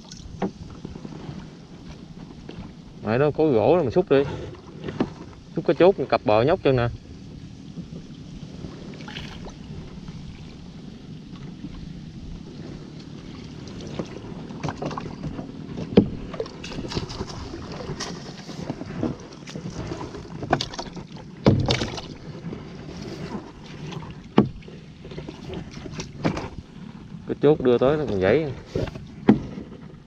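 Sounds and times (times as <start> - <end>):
paddle splashing in water: 0.0 - 30.0.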